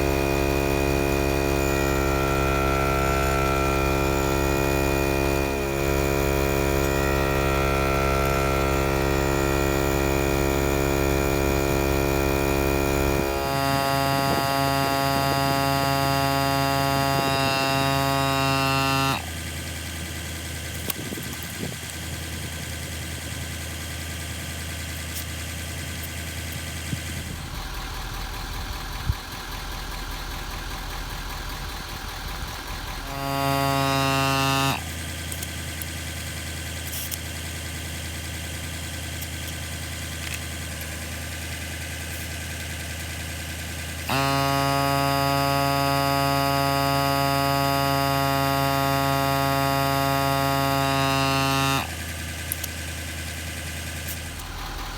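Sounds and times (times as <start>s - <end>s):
air compressor motor drone: 0.0s - 54.9s
low mechanical hum: 0.0s - 54.9s.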